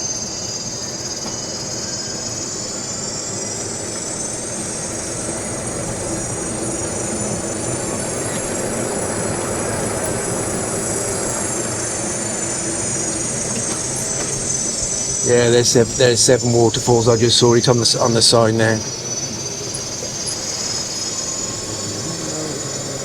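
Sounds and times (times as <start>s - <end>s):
electric motor whine: 0.0s - 23.0s
rolling road noise: 0.0s - 23.0s.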